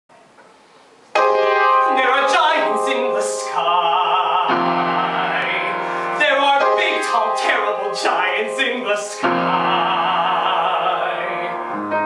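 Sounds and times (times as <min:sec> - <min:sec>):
piano accompaniment: 0:01.1 - 0:12.0
man singing: 0:01.8 - 0:12.0.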